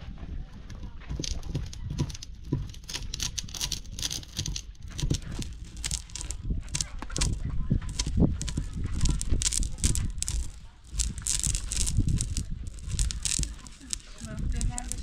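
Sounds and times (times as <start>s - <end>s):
nuts crunching: 0.7s - 15.0s
stone grinding over stone slab: 1.0s - 15.0s.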